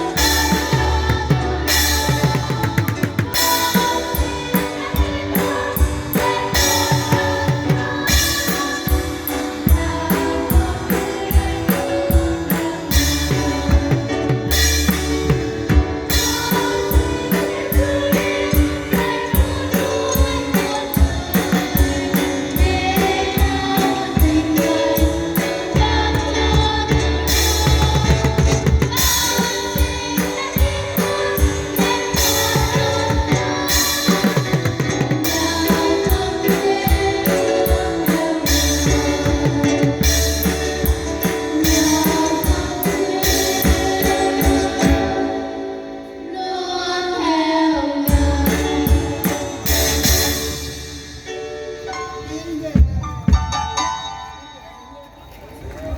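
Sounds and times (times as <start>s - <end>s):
drum kit beat: 0.0s - 45.2s, 48.1s - 51.8s, 52.7s - 54.1s
band music: 0.0s - 55.9s.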